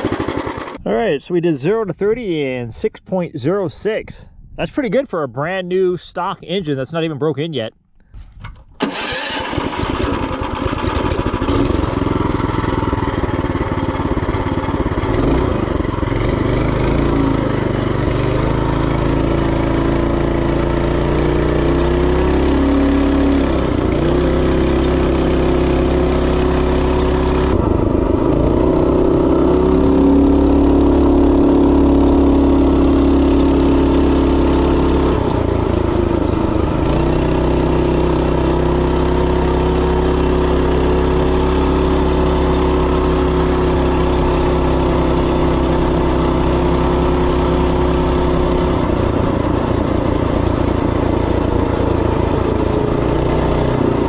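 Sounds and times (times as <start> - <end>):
minibike engine running: 0.0 - 0.8, 8.8 - 54.0.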